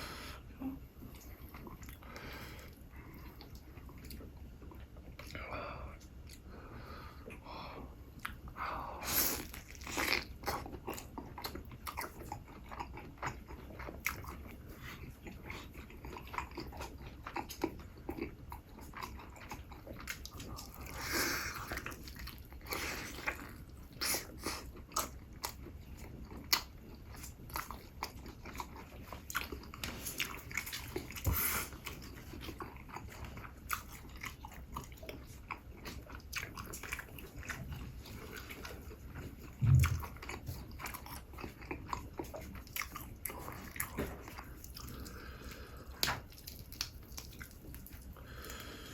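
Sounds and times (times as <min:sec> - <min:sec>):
close chewing with crunches: 0:08.1 - 0:48.9.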